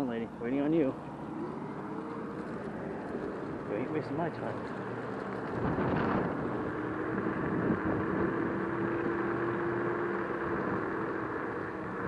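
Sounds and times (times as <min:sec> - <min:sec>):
scooter motor whine: 0:00.0 - 0:12.0
wind and road noise: 0:00.0 - 0:12.0.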